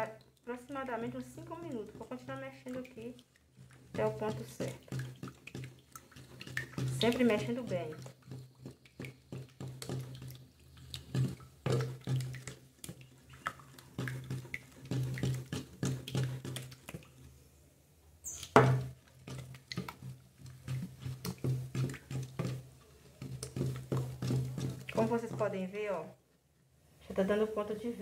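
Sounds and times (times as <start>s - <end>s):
wooden spoon scraping plastic tub: 0.9s - 16.9s, 18.6s - 25.9s.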